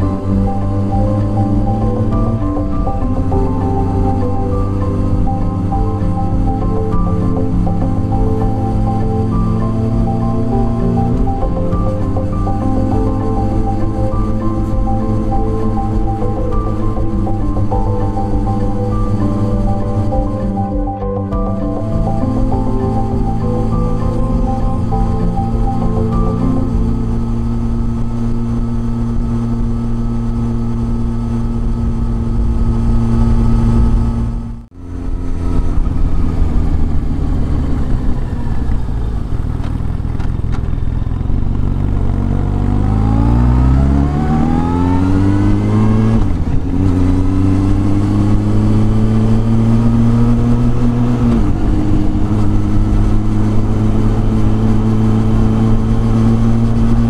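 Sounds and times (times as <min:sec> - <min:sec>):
motorcycle engine revving: 0:00.0 - 0:20.9, 0:21.5 - 0:57.0.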